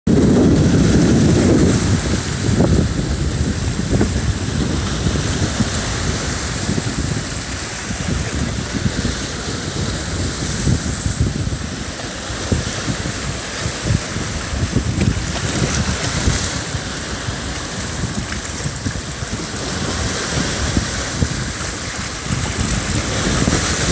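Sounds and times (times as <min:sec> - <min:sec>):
wind buffeting microphone: 0:00.1 - 0:23.9
sea surf hissing: 0:00.2 - 0:23.9.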